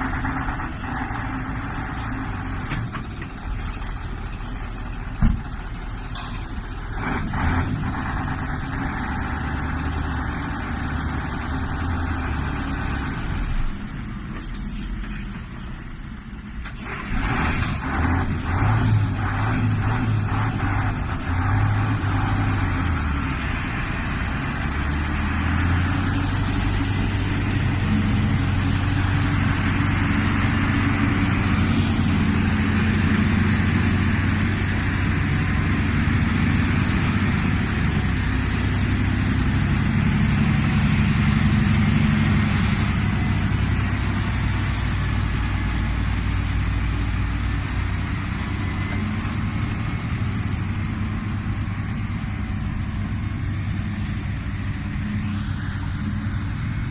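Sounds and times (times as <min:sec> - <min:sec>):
heavy truck engine droning: 0:00.0 - 0:56.9.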